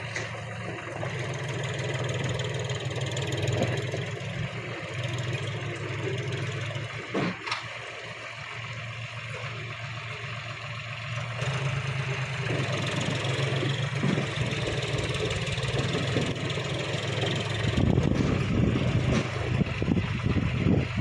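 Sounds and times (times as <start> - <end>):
tractor diesel engine: 0.0 - 21.0.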